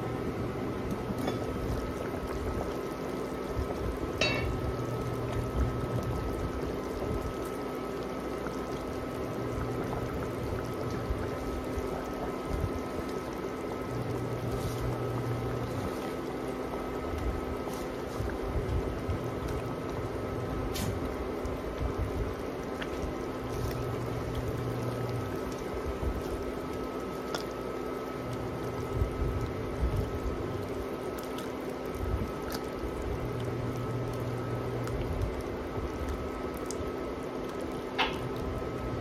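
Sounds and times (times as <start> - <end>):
broth bubbling: 0.0 - 39.0
induction cooktop hum: 0.0 - 39.0.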